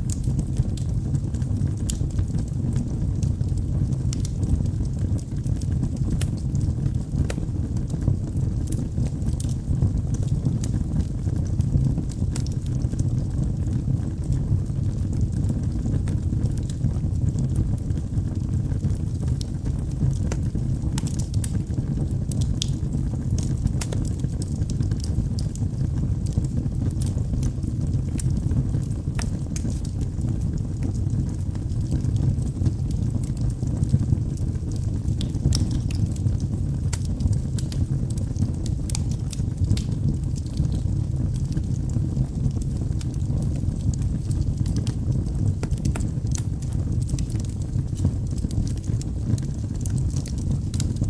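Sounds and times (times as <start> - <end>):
fire crackles and pops: 0.0 - 51.0
fire rumbling in fireplace: 0.0 - 51.0.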